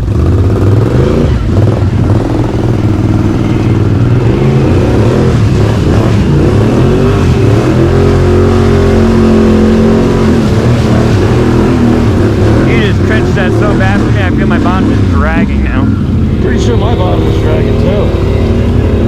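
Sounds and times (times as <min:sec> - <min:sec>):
atv engine revving in mud: 0:00.0 - 0:19.0.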